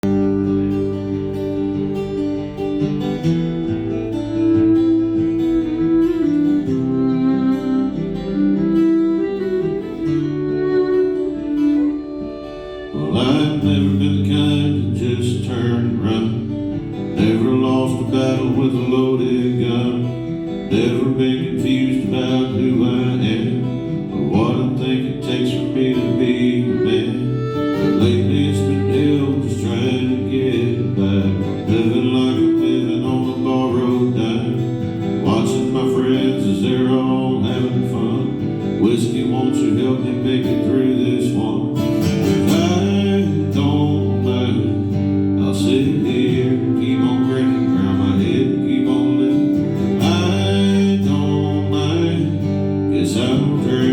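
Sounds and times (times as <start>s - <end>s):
strummed acoustic guitar: 0.0s - 53.9s.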